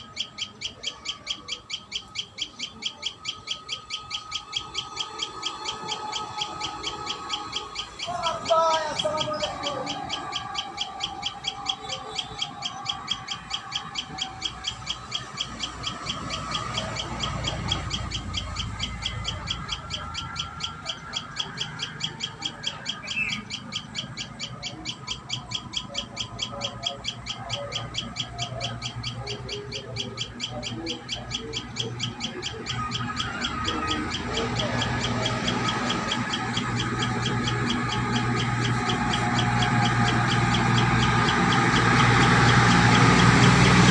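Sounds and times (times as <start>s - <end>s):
birds calling: 0.0s - 43.9s
fast pulsing chorus: 0.0s - 43.9s.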